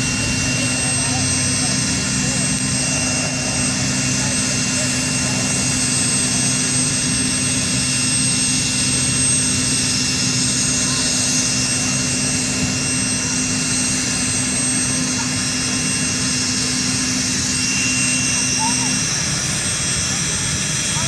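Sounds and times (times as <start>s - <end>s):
helicopter engines and rotors running: 0.0s - 21.0s.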